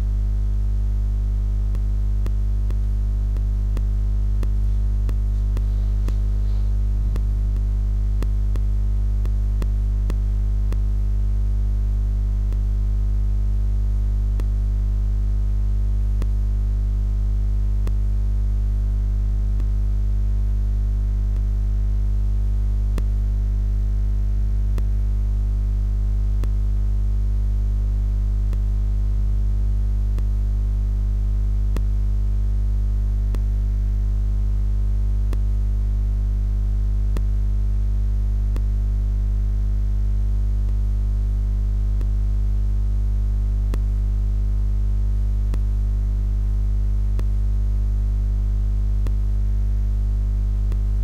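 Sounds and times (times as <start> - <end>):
loud electrical hum: 0.0 - 51.0.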